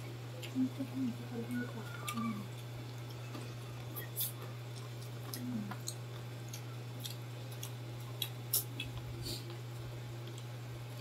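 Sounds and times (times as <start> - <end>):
steady low hum: 0.0 - 11.0
crunchy chewing: 1.5 - 11.0.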